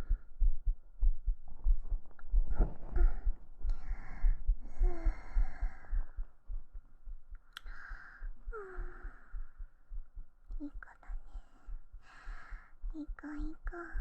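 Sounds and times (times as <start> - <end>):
heartbeat thumps: 0.0 - 14.0
soft breaths and sighs: 0.0 - 14.0.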